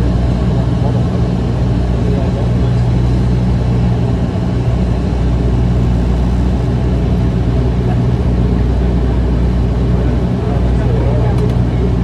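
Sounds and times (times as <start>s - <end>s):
turboprop cabin drone: 0.0s - 12.0s.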